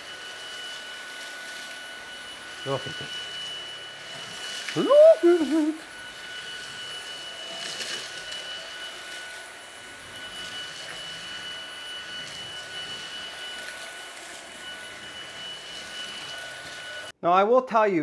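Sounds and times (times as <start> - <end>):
vacuum motor whine: 0.0 - 17.1.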